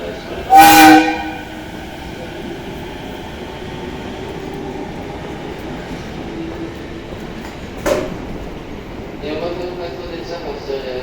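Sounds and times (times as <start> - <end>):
electric train rumbling slowly: 0.0 - 11.0.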